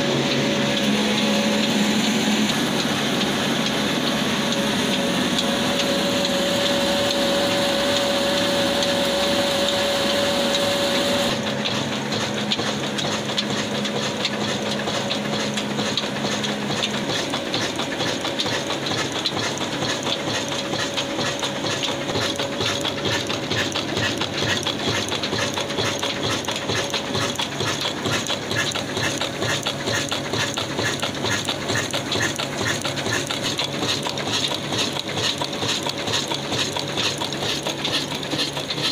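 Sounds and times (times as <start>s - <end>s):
belts and pulleys whining: 0.0s - 38.9s
diesel engine running: 0.0s - 38.9s.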